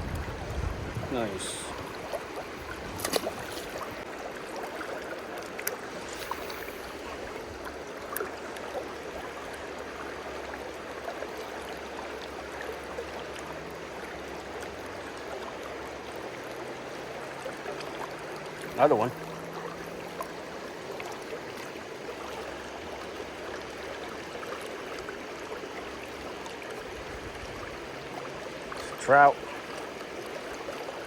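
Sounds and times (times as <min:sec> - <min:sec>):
river water running: 0:00.0 - 0:31.0.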